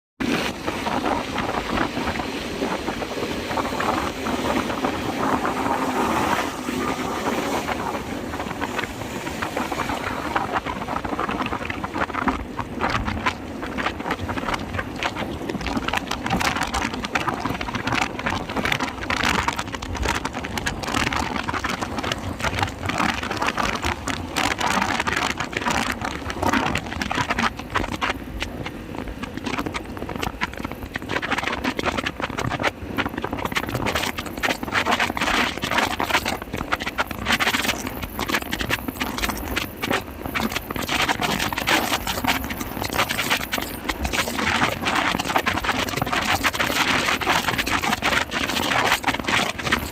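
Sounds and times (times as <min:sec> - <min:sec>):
wind buffeting microphone: 0:00.2 - 0:49.9.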